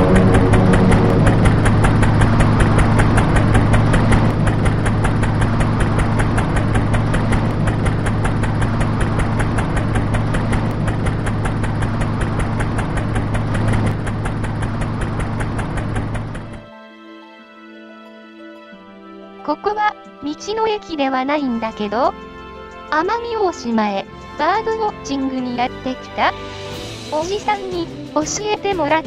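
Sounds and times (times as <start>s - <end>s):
engine running: 0.0s - 16.9s, 18.7s - 29.0s.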